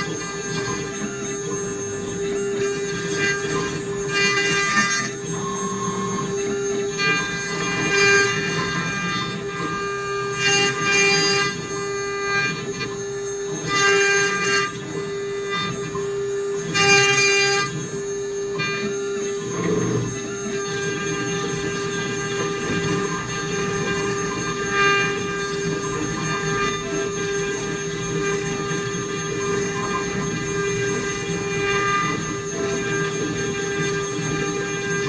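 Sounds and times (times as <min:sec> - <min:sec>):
router spindle whining: 0:00.0 - 0:35.0
tool cutting into wood: 0:00.0 - 0:35.0.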